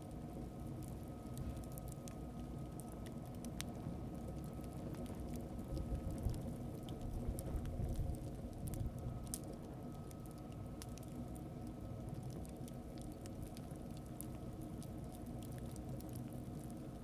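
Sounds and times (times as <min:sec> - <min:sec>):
small clicks and crackles: 0:00.0 - 0:17.0
steady low rumble: 0:00.1 - 0:17.0.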